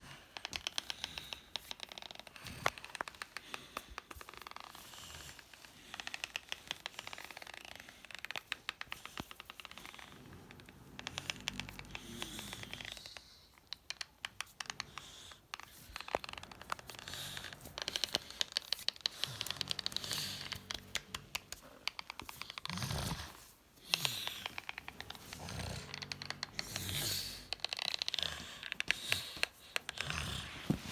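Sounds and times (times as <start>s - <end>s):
teeth grinding: 5.8s - 30.9s.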